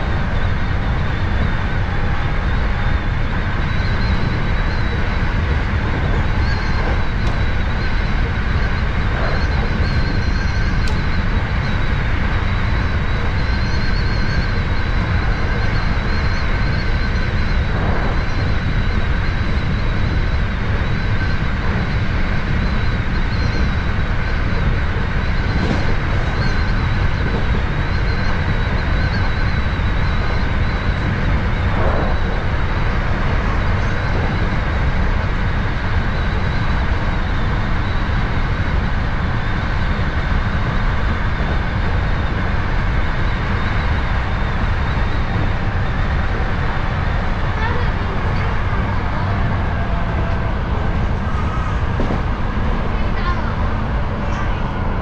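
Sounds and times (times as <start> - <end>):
faint high whine: 0.0 - 55.0
train wheels rumbling on rail: 0.0 - 55.0.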